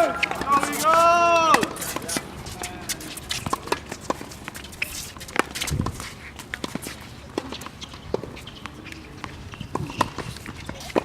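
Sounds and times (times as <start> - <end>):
tennis balls struck by racquets: 0.0 - 4.6, 5.2 - 11.0
players' footsteps: 0.0 - 11.0
tennis balls bouncing on court: 0.0 - 11.0.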